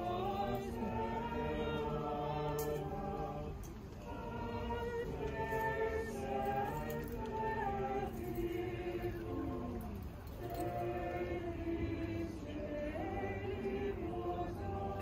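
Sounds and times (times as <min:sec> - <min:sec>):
group of voices singing a hymn: 0:00.0 - 0:15.0.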